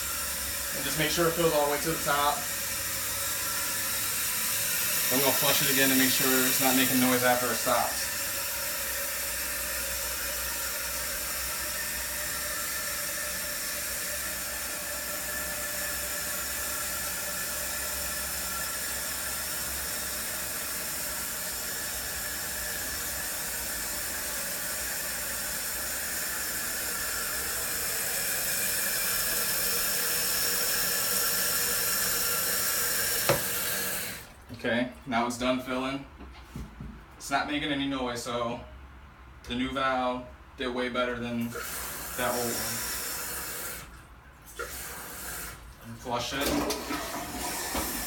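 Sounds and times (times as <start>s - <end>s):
water hissing into toilet tank: 0.0s - 34.4s, 41.4s - 48.0s.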